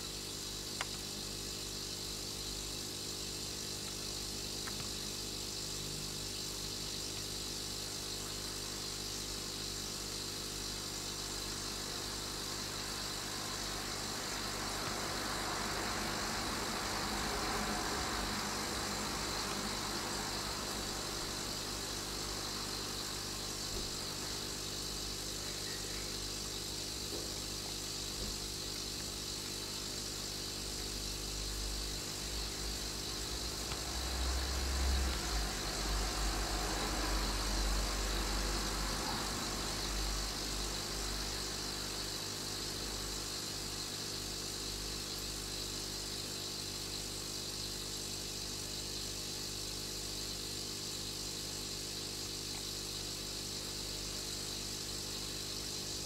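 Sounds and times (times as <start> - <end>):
constant hiss: 0.0 - 56.0
mechanical hum: 0.0 - 56.0.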